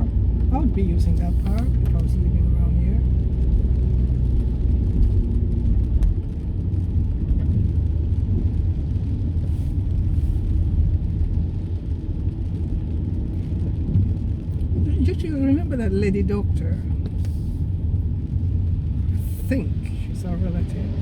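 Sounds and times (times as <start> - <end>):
engine and road noise in car: 0.0 - 21.0.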